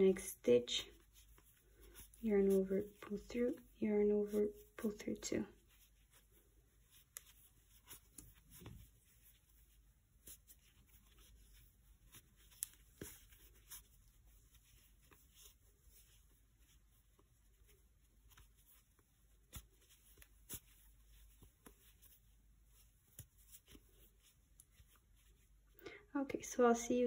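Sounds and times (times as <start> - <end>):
crochet hook clicking and scratching: 0.0 - 25.4.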